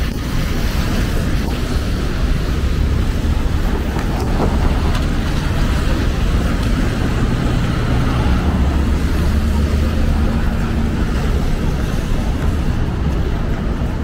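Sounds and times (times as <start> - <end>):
traffic low rumble: 0.0 - 14.0
tyres hissing on wet pavement: 0.0 - 14.0.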